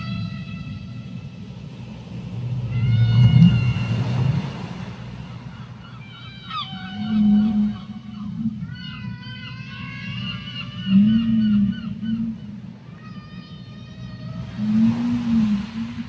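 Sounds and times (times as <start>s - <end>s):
deep underwater rumble: 0.0s - 16.0s
whale calls underwater: 0.0s - 16.0s.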